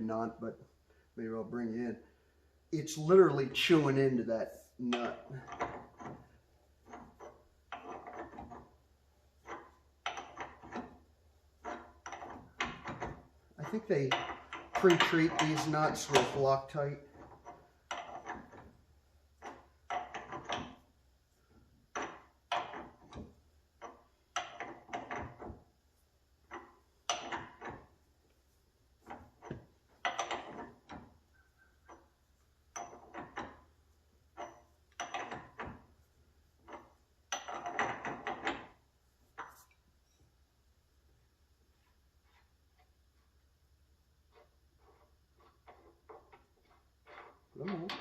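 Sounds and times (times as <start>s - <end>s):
hand tools and metal clinking: 2.8s - 40.4s, 44.3s - 48.0s.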